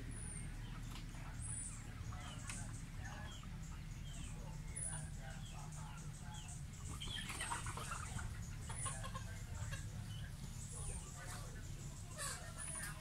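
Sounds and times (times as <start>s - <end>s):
chickens clucking: 0.0s - 13.0s
steady low hum: 0.0s - 13.0s.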